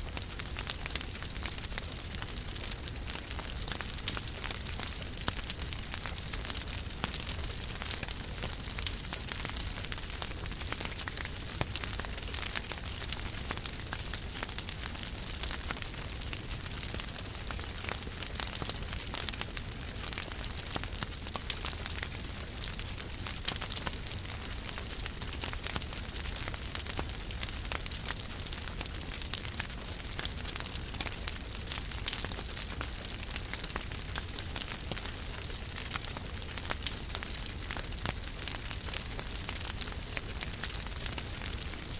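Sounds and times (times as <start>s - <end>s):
fireplace fire crackling: 0.0s - 41.9s.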